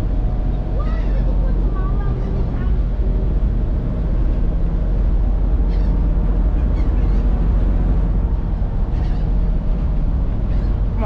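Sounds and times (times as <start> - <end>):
ferry engines rumbling: 0.0 - 11.0
wind noise on microphone: 0.0 - 11.0.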